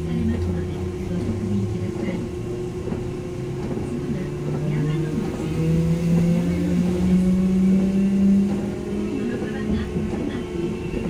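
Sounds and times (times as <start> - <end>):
electric tram motor whine: 0.0 - 11.0.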